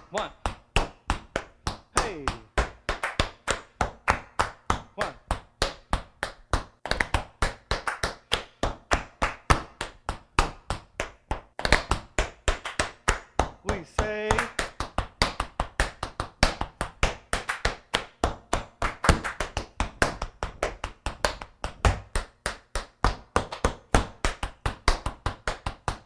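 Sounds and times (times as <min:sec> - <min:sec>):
tap shoes on wooden floor: 0:00.1 - 0:26.0.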